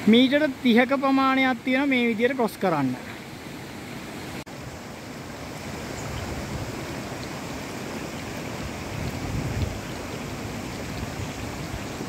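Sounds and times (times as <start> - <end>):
waterfall water rushing: 0.0 - 12.0.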